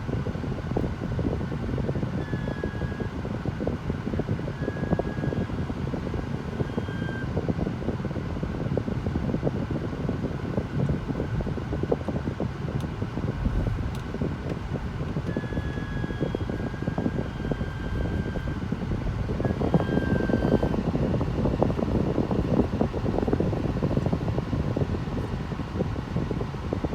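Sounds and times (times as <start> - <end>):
air conditioning air rush: 0.0 - 26.9.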